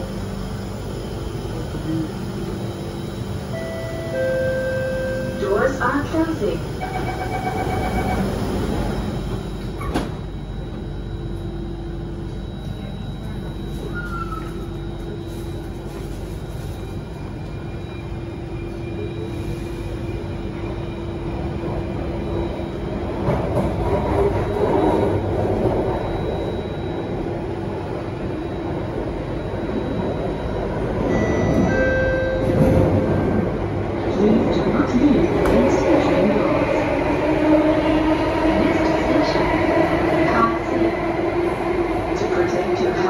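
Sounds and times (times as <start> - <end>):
metro train hum and wheel rumble: 0.0 - 43.0.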